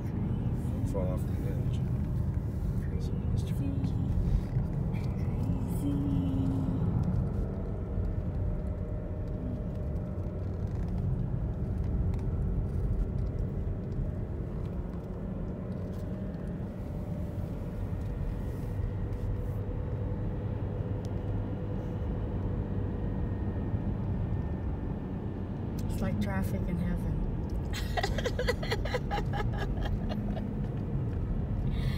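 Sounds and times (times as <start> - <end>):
car road and wind noise: 0.0 - 31.9.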